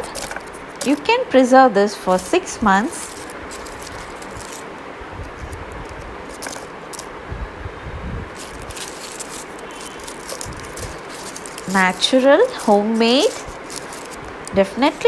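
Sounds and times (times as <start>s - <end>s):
faint clicks and scrapes: 0.0s - 1.2s, 2.1s - 7.1s, 8.4s - 15.0s.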